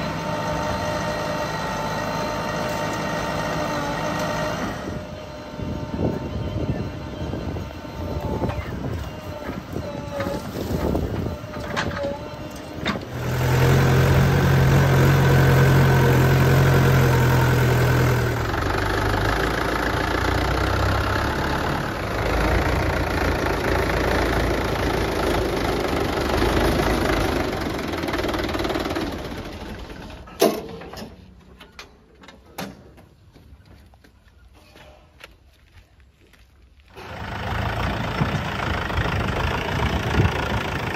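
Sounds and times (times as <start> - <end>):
tractor diesel engine idling: 0.0 - 31.5, 36.9 - 40.9.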